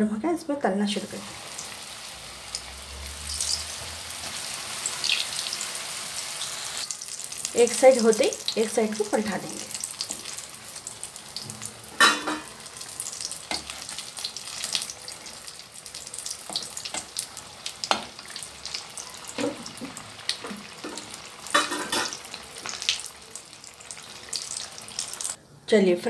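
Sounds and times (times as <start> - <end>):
oil sizzling while deep-frying: 0.9 - 25.4.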